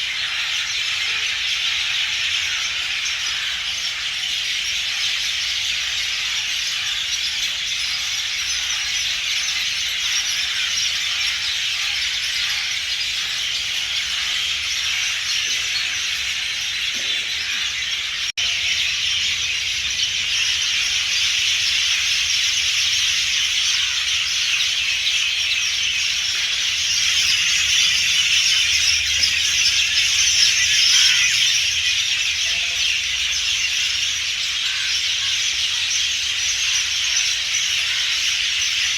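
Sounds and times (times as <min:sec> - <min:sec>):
shrill chorus of wild creatures: 0:00.0 - 0:38.9.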